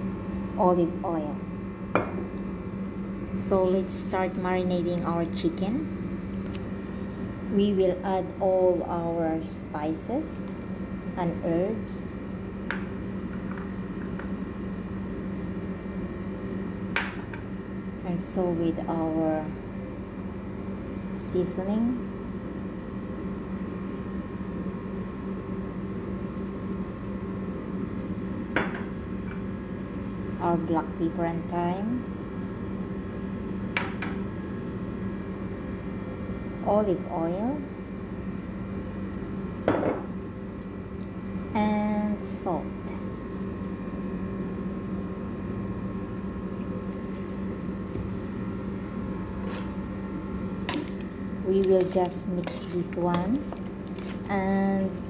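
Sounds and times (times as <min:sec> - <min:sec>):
appliance hum with hiss: 0:00.0 - 0:55.0.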